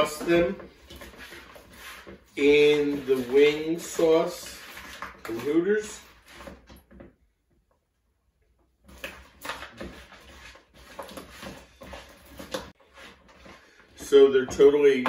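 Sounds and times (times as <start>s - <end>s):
spatula scraping plastic bowl: 0.0s - 7.0s, 8.9s - 15.0s.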